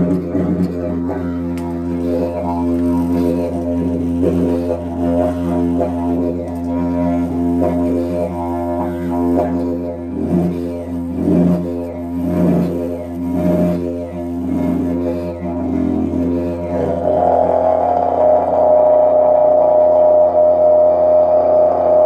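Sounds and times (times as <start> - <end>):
didgeridoo drone: 0.0 - 22.0.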